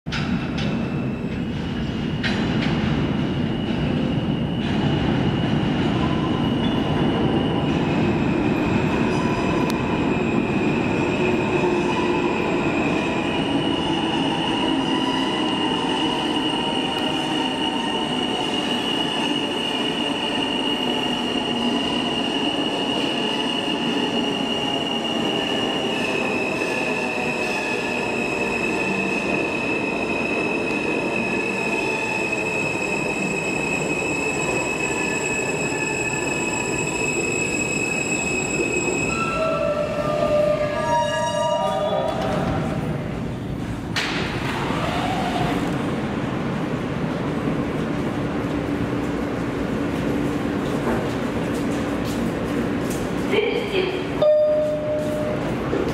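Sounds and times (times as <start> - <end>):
subway train rumble: 0.0 - 55.9
high train wheel squeal: 0.2 - 43.7, 44.5 - 45.9, 54.0 - 55.8.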